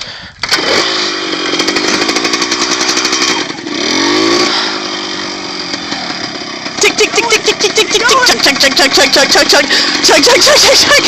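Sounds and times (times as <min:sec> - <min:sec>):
dirt bike engine starting and revving: 0:00.0 - 0:11.0.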